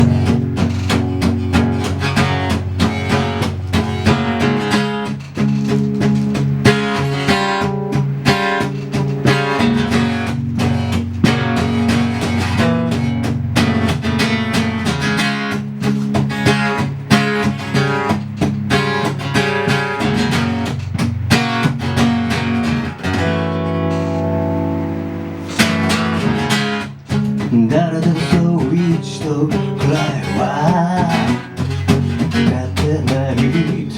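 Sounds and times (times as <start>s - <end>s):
strummed guitar chords: 0.0s - 33.9s.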